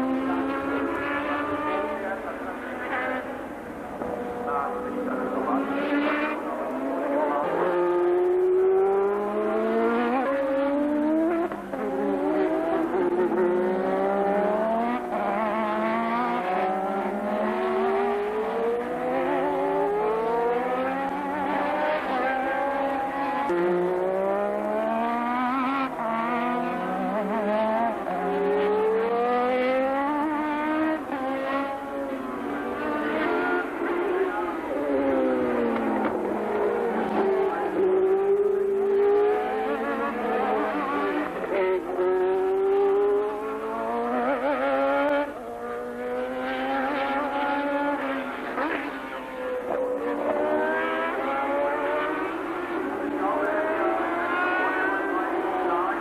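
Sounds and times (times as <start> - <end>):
racing car engines accelerating: 0.0 - 56.0.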